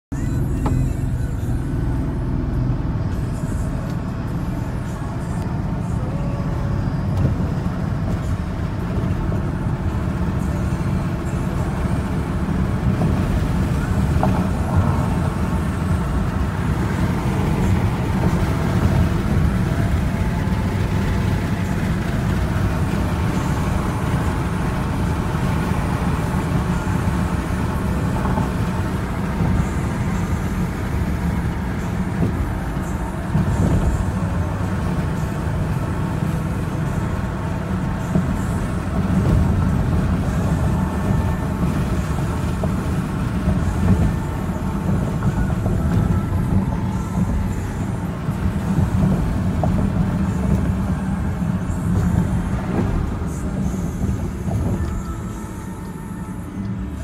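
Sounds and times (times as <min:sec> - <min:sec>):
car engine drone: 0:00.0 - 0:57.0
tyre and road noise: 0:00.1 - 0:57.0.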